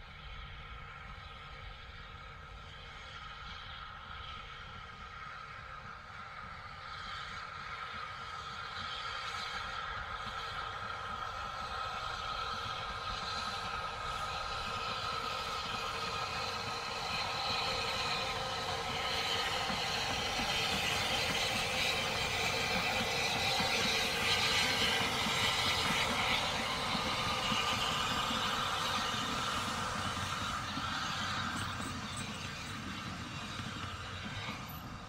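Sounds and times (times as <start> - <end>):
carriages rumbling on rails: 0.0 - 35.0
steam locomotive running: 0.0 - 35.0.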